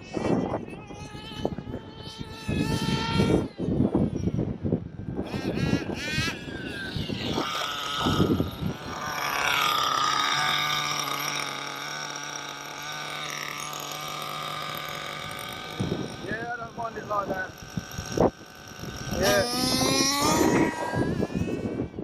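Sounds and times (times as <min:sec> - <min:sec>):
small nitro engine running: 0:00.0 - 0:22.0
wind buffeting microphone: 0:00.0 - 0:22.0.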